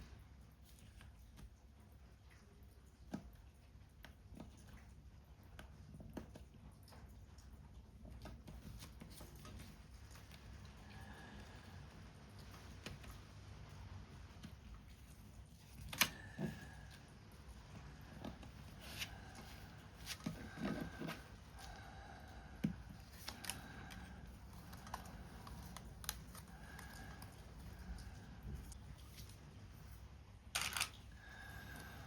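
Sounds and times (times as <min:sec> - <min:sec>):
faint rain: 0:00.0 - 0:32.0.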